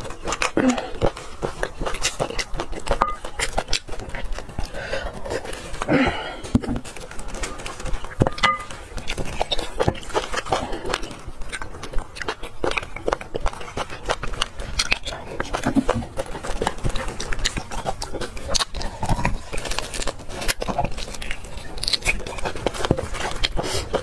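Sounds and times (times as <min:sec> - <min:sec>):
chewing: 0:00.0 - 0:24.0
mouth clicks and smacks: 0:00.0 - 0:24.0.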